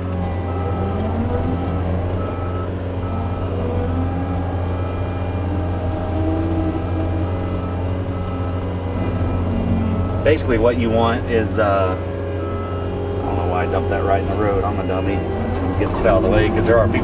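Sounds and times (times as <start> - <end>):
diesel engine running: 0.0 - 17.0
backup alarm beeping: 0.3 - 17.0.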